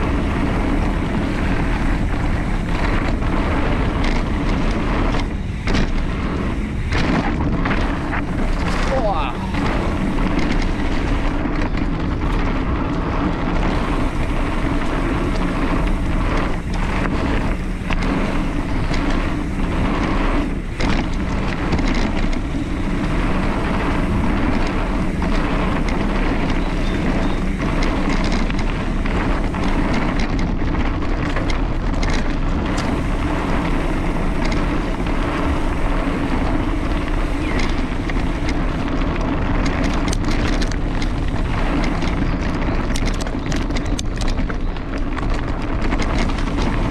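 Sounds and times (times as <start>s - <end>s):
bike knocks and rattles: 0.0s - 46.9s
tyre and trail noise: 0.0s - 46.9s
wind buffeting microphone: 0.0s - 46.9s.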